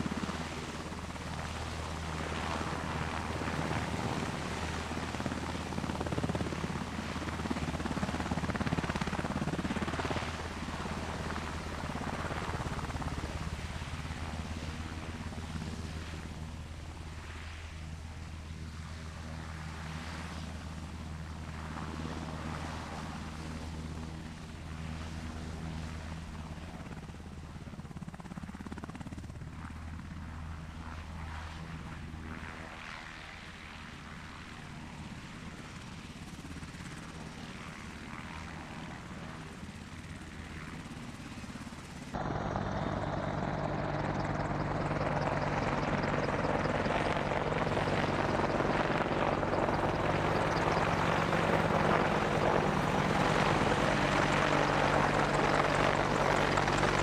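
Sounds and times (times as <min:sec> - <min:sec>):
helicopter flying low overhead: 0:00.0 - 0:57.0
helicopter turbine and rotor drone: 0:00.0 - 0:57.0.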